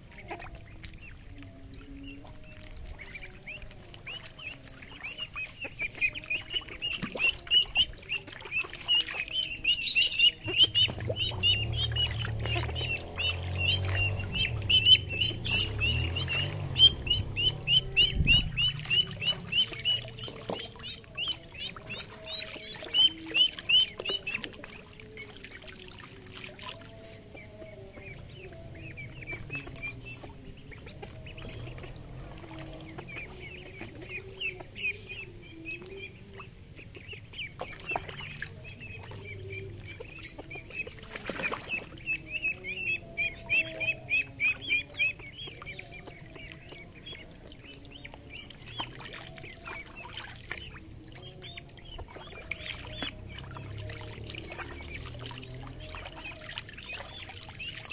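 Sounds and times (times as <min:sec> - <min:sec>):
ducklings peeping: 0:00.0 - 0:57.9
water splashing: 0:00.0 - 0:57.9.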